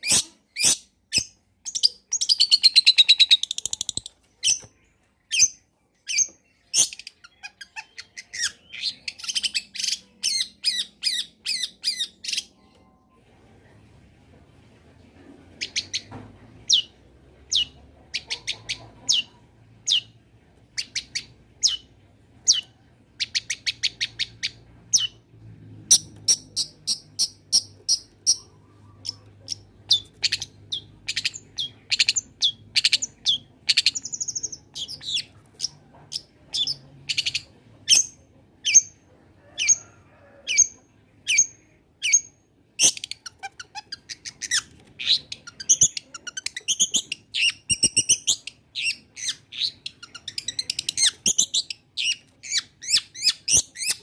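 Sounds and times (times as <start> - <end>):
bird chirping: 0.0 - 13.1, 15.6 - 25.2, 25.9 - 54.0.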